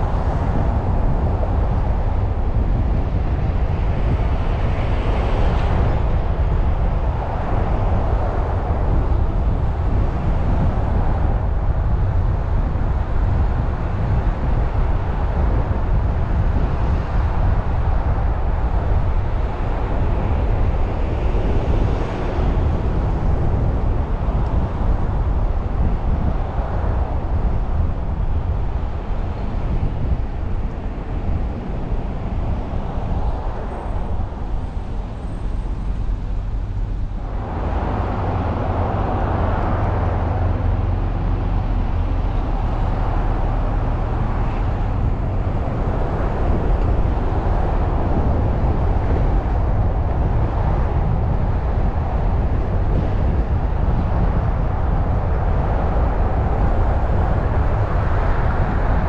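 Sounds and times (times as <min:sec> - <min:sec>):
car engine and tyre rumble: 0:00.0 - 0:59.0
surrounding traffic: 0:00.0 - 0:59.0.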